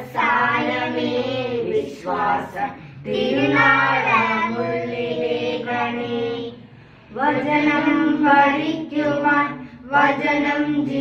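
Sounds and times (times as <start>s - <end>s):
children and women singing hymn: 0.0s - 11.0s.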